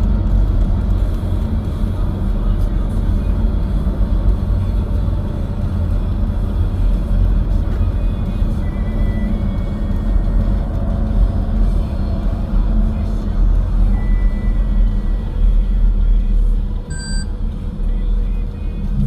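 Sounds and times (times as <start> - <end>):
car engine rumble: 0.0 - 19.0
tyre road noise: 0.0 - 19.0.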